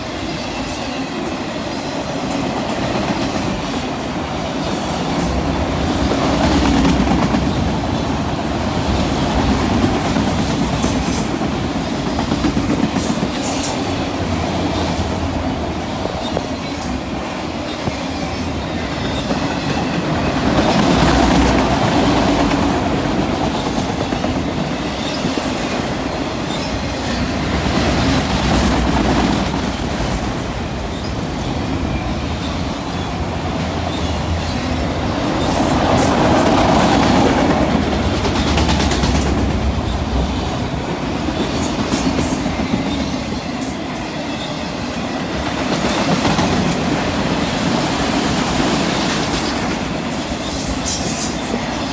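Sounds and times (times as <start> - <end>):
freight train wheels clattering: 0.0 - 51.9.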